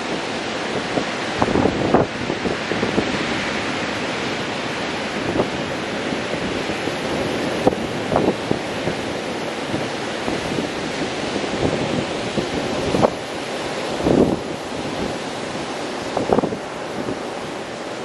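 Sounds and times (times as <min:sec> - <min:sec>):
heavy surf breaking: 0:00.0 - 0:18.0
wind buffeting microphone: 0:00.0 - 0:18.0.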